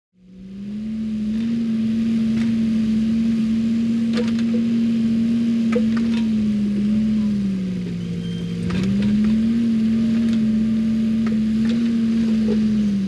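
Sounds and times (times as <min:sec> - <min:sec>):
excavator engine running: 0:00.2 - 0:13.0.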